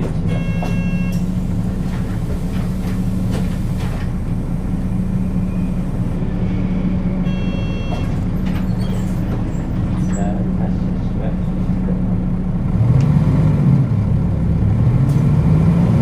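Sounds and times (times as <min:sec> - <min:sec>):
bus diesel engine humming: 0:00.0 - 0:16.0.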